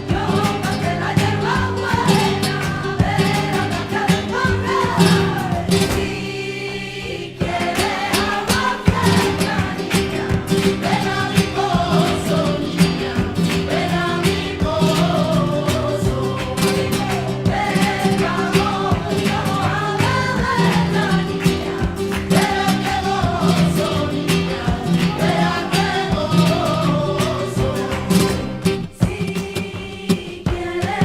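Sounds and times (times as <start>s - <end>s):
flamenco guitar strumming: 0.0s - 31.0s.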